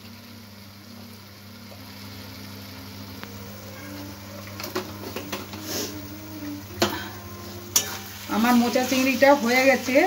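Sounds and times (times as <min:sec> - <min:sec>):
curry sizzling faintly: 0:00.0 - 0:10.0.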